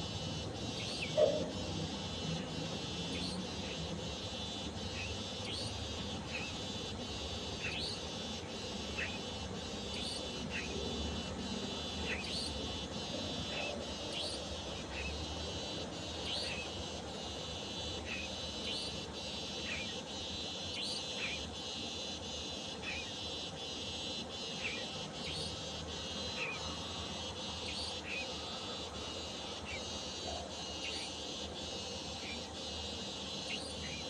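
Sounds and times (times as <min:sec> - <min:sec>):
insect chirring: 0:00.0 - 0:34.0.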